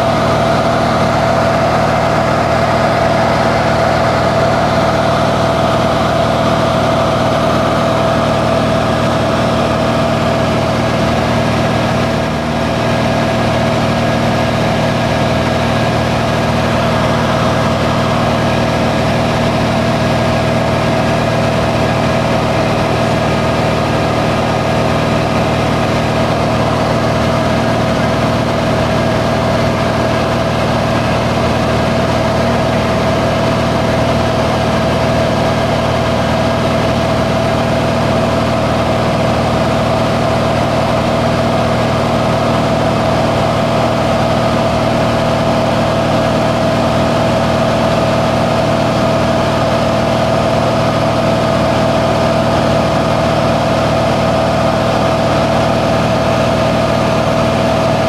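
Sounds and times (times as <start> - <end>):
plane engine drone in cabin: 0.0 - 58.0.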